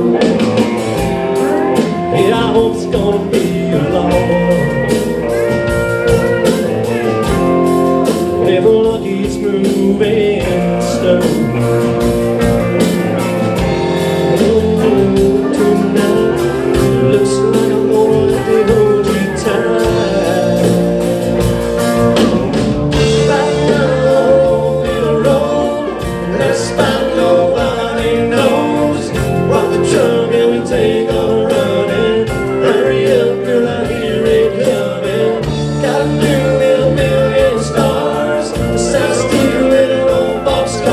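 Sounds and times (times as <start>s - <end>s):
bass: 0.0s - 40.9s
lead guitar line: 0.0s - 40.9s
steady drum beat: 0.0s - 40.9s.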